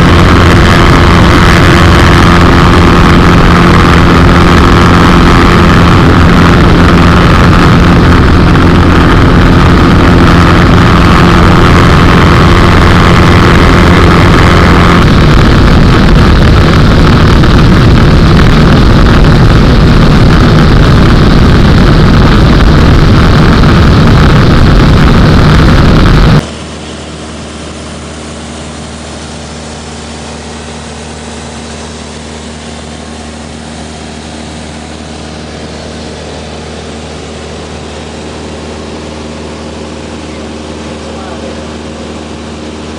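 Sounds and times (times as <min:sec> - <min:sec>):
light aircraft engine and propeller: 0:00.0 - 0:42.9.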